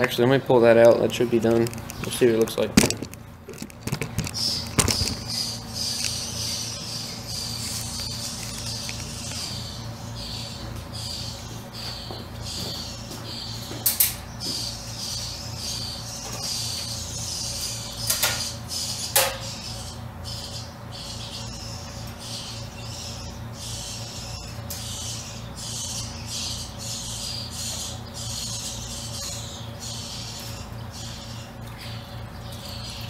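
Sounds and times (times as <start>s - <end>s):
low electrical hum: 0.0s - 33.0s
small birds chirping: 0.0s - 33.0s.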